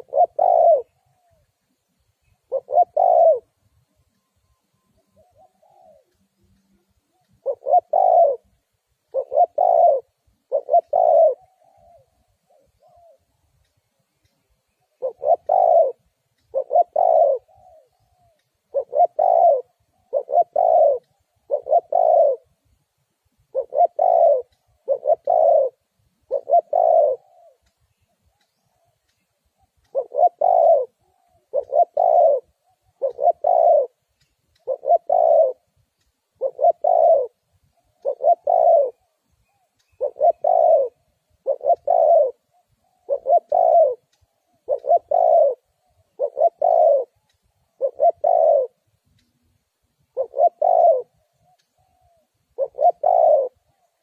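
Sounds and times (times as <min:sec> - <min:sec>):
dove cooing: 0:00.0 - 0:13.5, 0:14.7 - 0:22.6, 0:23.5 - 0:35.7, 0:36.3 - 0:48.8, 0:50.1 - 0:54.0.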